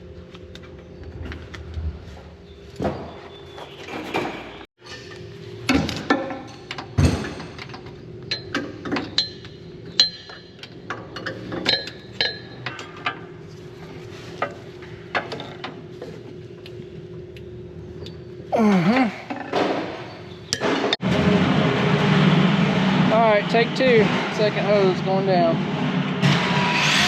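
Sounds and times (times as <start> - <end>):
steady low hum: 4.9 - 27.0.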